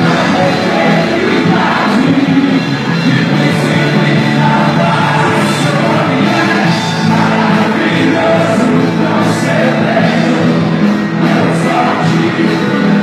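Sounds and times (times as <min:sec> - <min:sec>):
congregation singing: 0:00.0 - 0:13.0
live worship band: 0:00.0 - 0:13.0.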